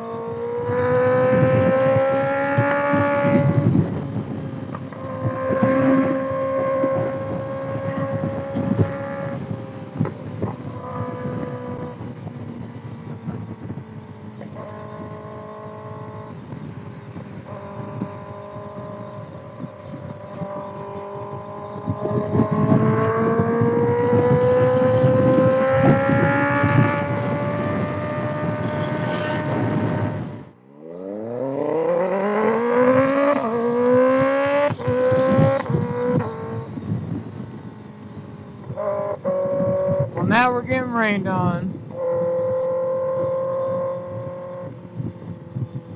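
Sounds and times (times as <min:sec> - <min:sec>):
motorcycle engine revving: 0:00.0 - 0:40.7, 0:41.3 - 0:45.9.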